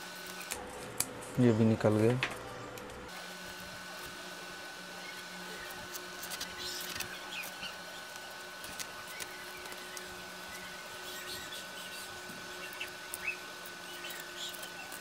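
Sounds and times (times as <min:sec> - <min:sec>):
high-pitched background whine: 0:01.4 - 0:15.0.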